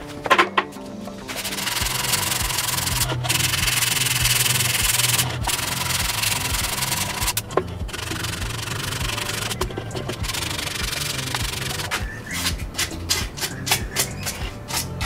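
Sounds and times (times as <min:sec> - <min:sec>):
sanding block rubbing plywood: 0:01.3 - 0:15.0.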